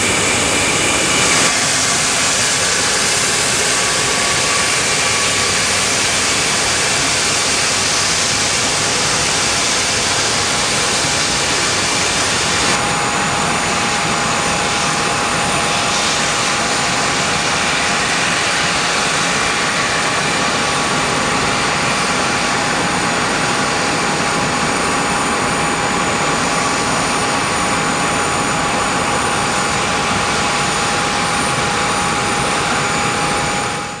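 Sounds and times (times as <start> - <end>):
high-pitched engine whine: 0.0 - 34.0
jet engines running: 0.0 - 34.0.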